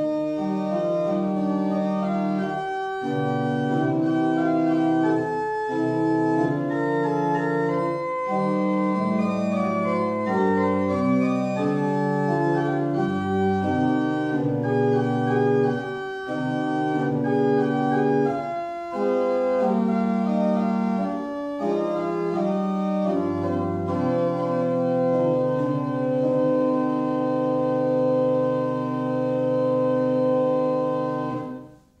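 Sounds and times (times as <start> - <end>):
church organ chords: 0.0 - 32.0.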